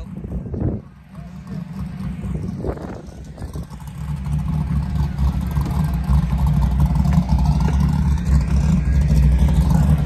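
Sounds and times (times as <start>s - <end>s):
drag car engine rumbling: 0.0s - 10.0s.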